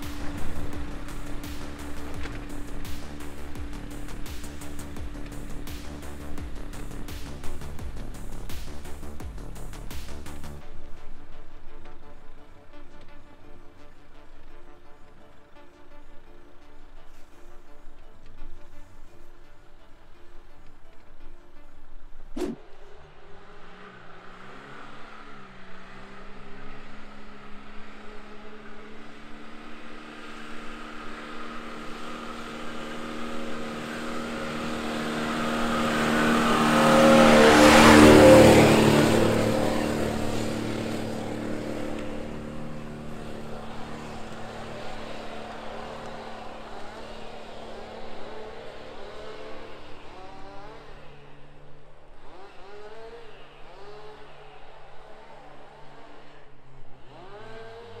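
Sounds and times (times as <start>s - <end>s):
suv engine pulling uphill: 0.0s - 58.0s.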